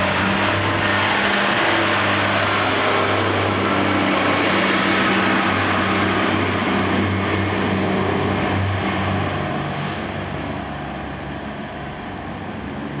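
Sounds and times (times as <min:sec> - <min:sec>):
diesel train engine humming: 0:00.0 - 0:13.0
wheel and rail rumble: 0:00.0 - 0:13.0.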